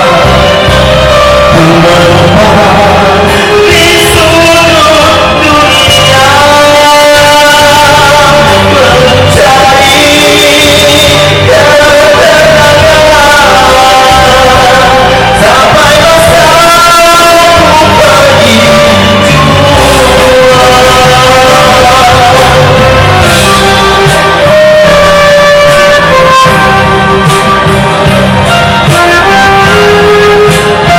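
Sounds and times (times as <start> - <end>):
person singing lead: 0.0 - 30.9
rock band playing: 0.0 - 30.9.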